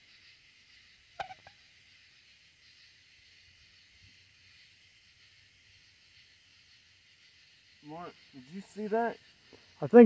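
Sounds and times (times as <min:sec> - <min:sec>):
faint crickets chirping: 0:00.0 - 0:10.0.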